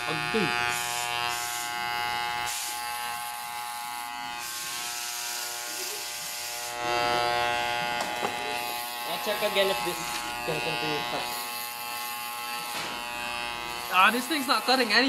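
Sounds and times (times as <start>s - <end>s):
clippers rasping through hair: 0.0s - 15.0s
electric hair clippers buzzing: 0.0s - 15.0s.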